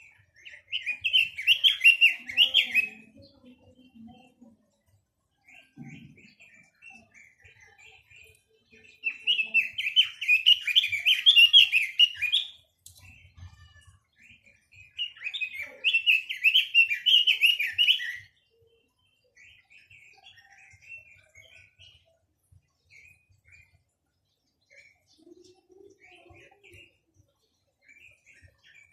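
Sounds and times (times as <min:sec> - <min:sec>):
soft bird chirps: 0:00.0 - 0:28.9.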